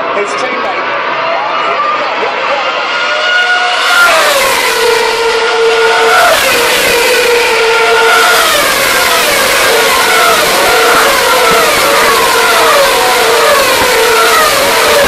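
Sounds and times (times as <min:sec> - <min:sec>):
race car engines screaming past: 0:01.1 - 0:15.0
steady engine tone: 0:01.8 - 0:15.0.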